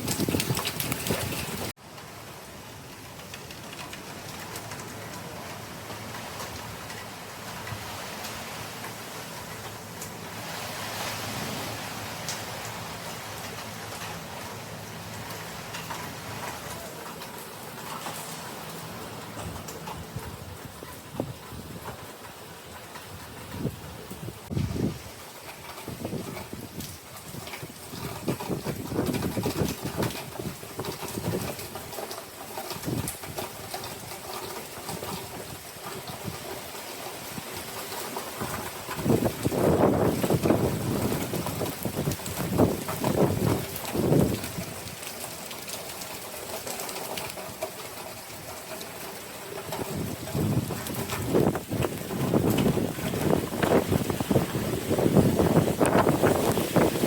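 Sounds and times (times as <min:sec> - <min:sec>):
heavy rain falling: 0:00.0 - 0:57.0
dripping water ticks: 0:03.0 - 0:10.3, 0:12.2 - 0:23.7, 0:25.3 - 0:57.0.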